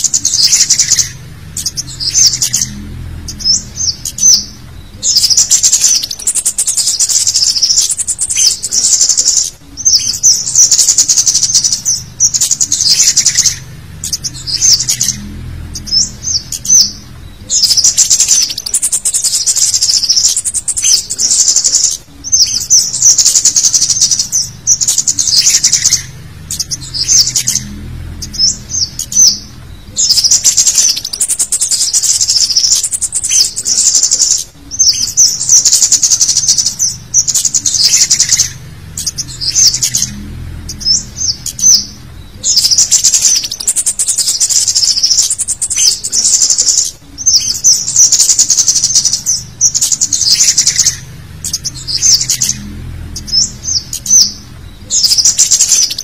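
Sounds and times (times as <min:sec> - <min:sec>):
bird chirps and twitters: 0:00.0 - 0:56.0.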